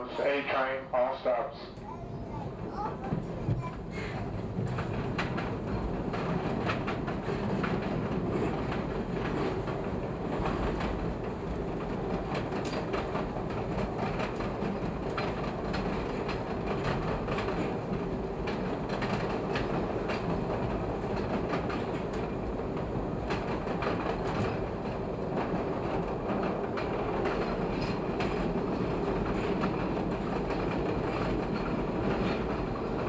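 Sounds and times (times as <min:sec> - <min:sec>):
elevated train rumbling: 0:00.0 - 0:33.0.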